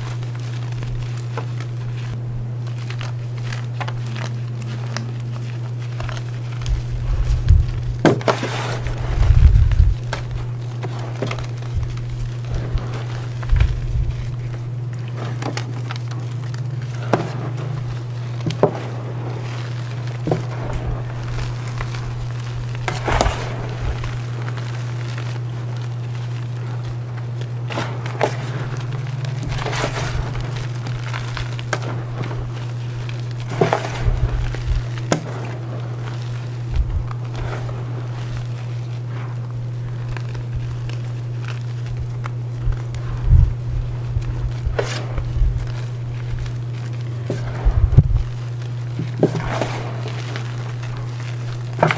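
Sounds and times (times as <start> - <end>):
chalk crunching by hand: 0.0 - 51.9
steady low hum: 0.0 - 51.9.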